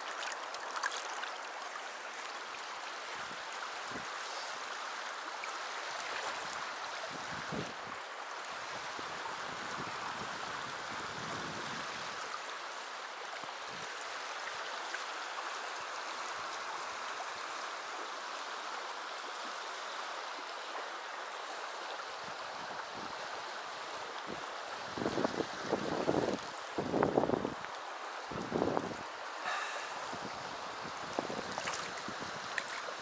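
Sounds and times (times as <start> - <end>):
river rushing over stones: 0.0 - 33.0.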